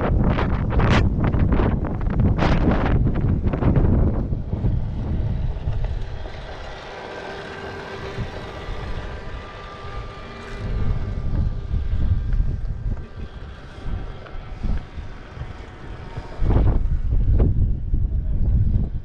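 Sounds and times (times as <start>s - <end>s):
wind buffeting microphone: 0.0s - 19.0s
motorcycle engine running: 0.2s - 19.0s.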